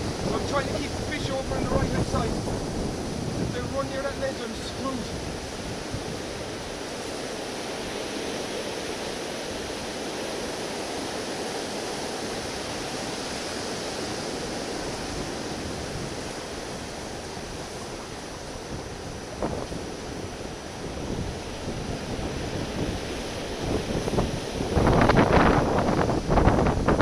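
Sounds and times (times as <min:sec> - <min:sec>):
wind buffeting microphone: 0:00.0 - 0:08.0, 0:12.2 - 0:27.0
sea surf against rocks: 0:00.0 - 0:27.0.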